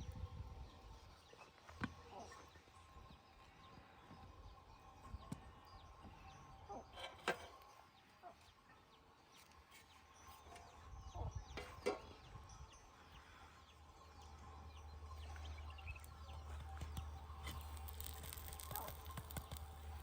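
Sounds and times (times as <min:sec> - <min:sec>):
faint birdsong chirps: 0:00.0 - 0:20.0.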